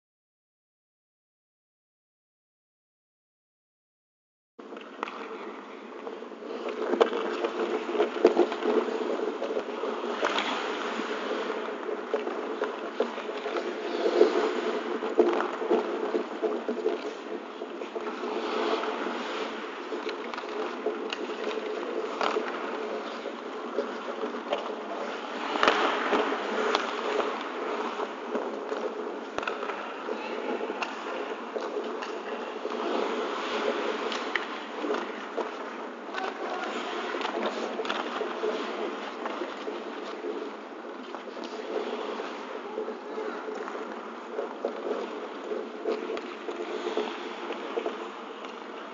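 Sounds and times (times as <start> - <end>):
hockey sticks and puck clacking: 4.7 - 48.9
skate blades scraping ice: 4.8 - 48.9.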